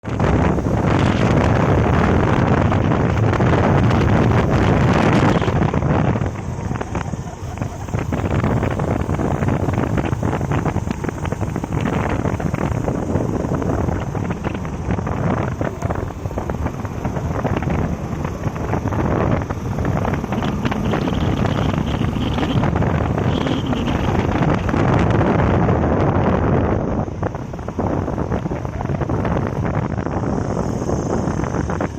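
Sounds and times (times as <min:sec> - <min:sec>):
motorcycle running: 0:00.0 - 0:31.9
road noise: 0:00.0 - 0:31.9
wind buffeting microphone: 0:00.0 - 0:31.9.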